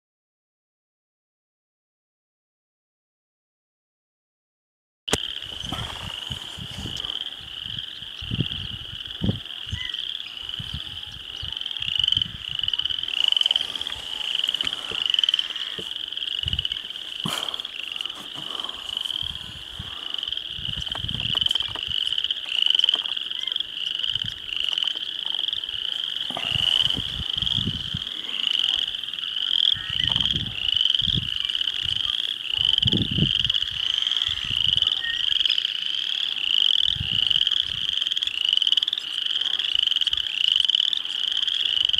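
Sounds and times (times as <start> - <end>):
chorus of frogs calling: 5.1 - 41.9.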